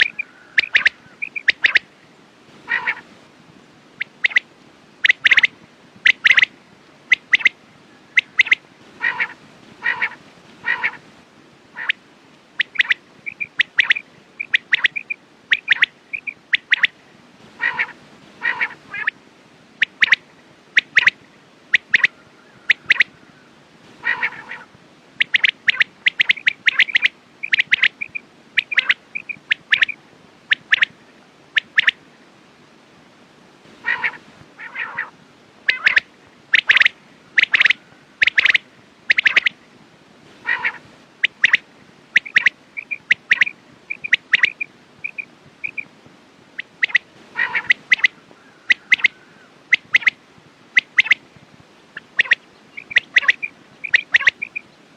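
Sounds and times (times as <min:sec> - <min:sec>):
quail calling: 0:00.0 - 0:01.9, 0:02.6 - 0:03.1, 0:04.0 - 0:06.5, 0:07.1 - 0:11.0, 0:11.7 - 0:12.0, 0:12.6 - 0:19.2, 0:19.8 - 0:20.2, 0:20.8 - 0:31.0, 0:31.6 - 0:32.0, 0:33.8 - 0:39.6, 0:40.4 - 0:45.9, 0:46.6 - 0:50.2, 0:50.8 - 0:51.2, 0:52.0 - 0:54.7.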